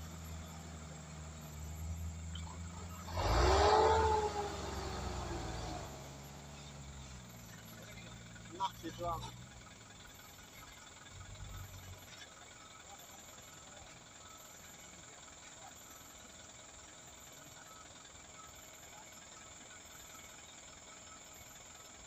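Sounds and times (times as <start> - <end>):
faint diesel truck engine: 0.0 - 22.0.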